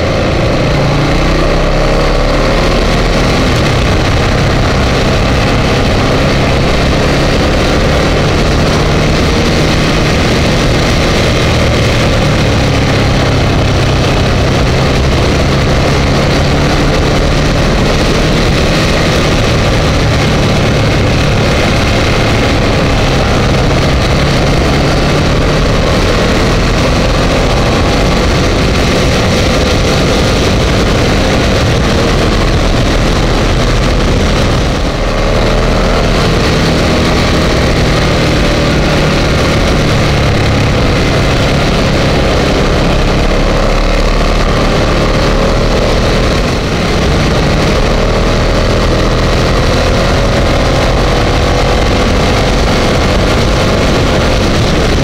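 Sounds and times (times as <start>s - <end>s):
motorcycle engine running: 0.0s - 55.0s
road noise: 0.0s - 55.0s
wind noise: 0.0s - 55.0s.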